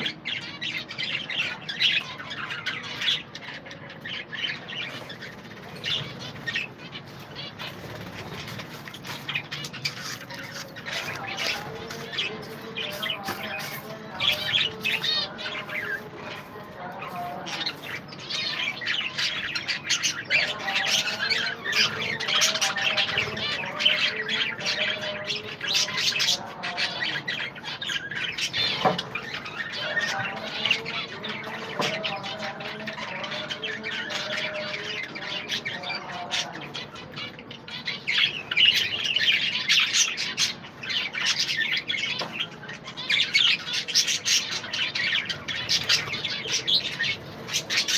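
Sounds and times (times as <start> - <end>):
budgerigars chattering: 0.0 - 47.9.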